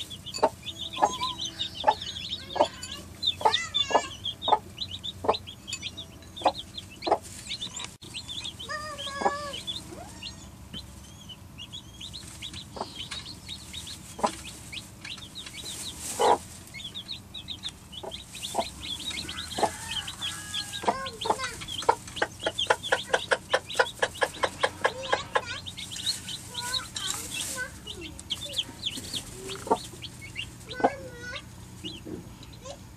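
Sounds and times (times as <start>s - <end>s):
chicks peeping: 0.0s - 32.9s
hen clucking: 0.0s - 32.9s.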